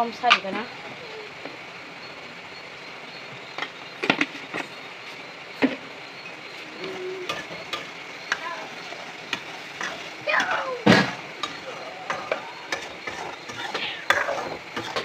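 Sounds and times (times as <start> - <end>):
gas stove hissing: 0.0 - 15.0.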